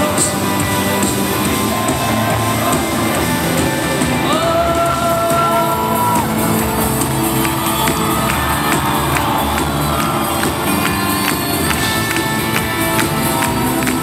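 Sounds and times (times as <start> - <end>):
crowd shouting and whooping: 0.0 - 14.0
live band music with singing: 0.0 - 14.0.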